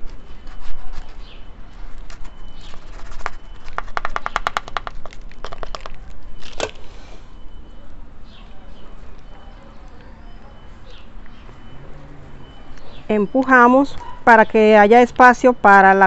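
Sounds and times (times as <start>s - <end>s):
birds chirping faintly: 0.2s - 16.0s.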